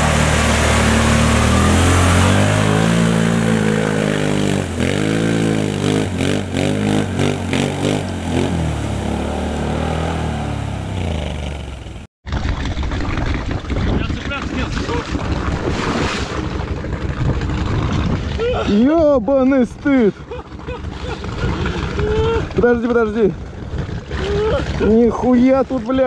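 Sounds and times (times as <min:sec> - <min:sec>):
atv engine revving: 0:00.0 - 0:12.1, 0:13.1 - 0:19.0, 0:19.8 - 0:26.0
tyres churning through mud: 0:00.0 - 0:26.0.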